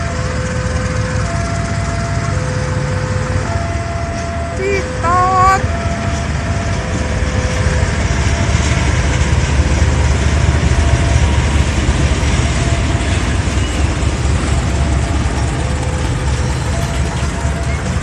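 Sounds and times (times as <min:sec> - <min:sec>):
locomotive passing: 0:00.0 - 0:18.0
wagons rolling over rails: 0:00.0 - 0:18.0.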